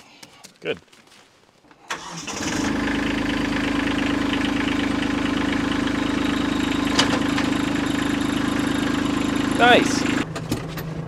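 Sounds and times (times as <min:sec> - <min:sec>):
tractor diesel engine idling: 0:01.9 - 0:11.0.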